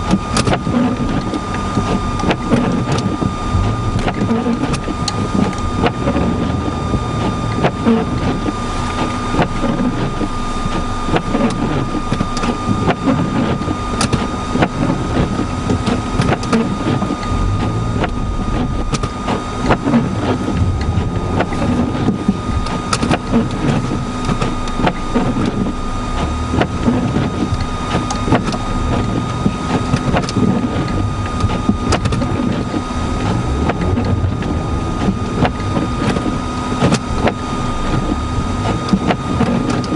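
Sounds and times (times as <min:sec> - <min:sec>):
car engine running with whine: 0:00.0 - 0:39.9
wind rumbling on microphone: 0:00.0 - 0:39.9.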